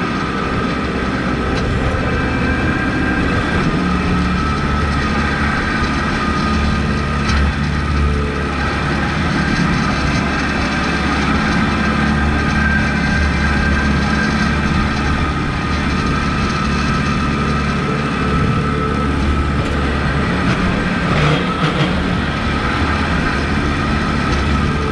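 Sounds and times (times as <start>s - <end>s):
high whine: 0.0s - 24.9s
tractor diesel engine running: 0.0s - 24.9s.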